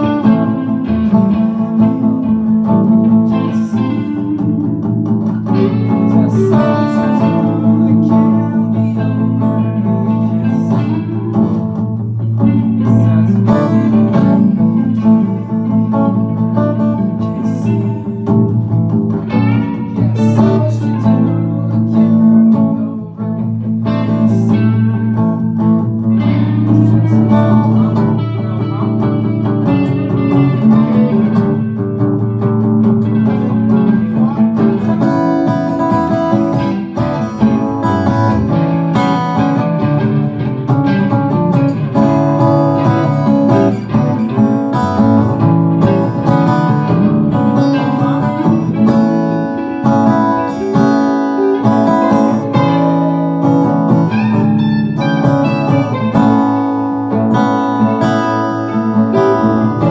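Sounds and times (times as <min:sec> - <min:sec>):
bluesy electric guitar: 0:00.0 - 0:59.9.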